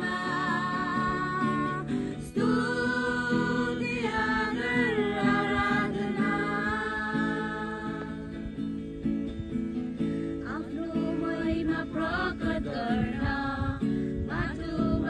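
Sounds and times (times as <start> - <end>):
group of young people singing: 0.0 - 8.6, 10.4 - 15.0
acoustic guitar: 0.0 - 15.0.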